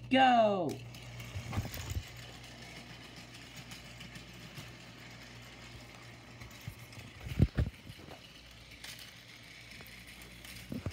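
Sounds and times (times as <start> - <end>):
toy train motor humming: 0.0 - 10.9.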